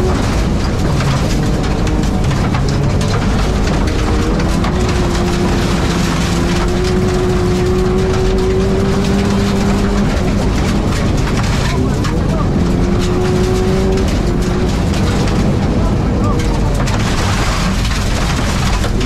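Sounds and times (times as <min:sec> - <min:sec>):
race car engine under load: 0:00.0 - 0:19.0
road and wind noise: 0:00.0 - 0:19.0.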